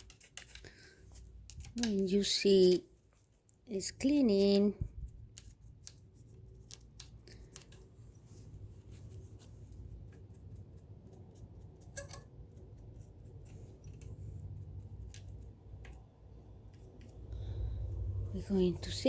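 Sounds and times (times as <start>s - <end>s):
low steady hum: 0.7s - 19.0s.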